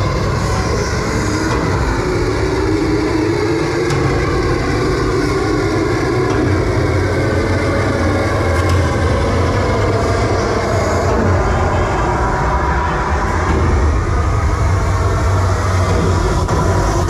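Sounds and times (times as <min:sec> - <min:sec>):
machine droning hum: 0:00.0 - 0:17.0.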